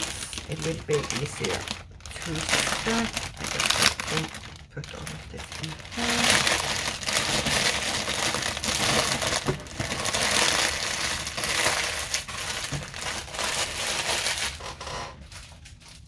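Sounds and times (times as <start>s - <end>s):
plastic crinkling: 0.0s - 16.0s.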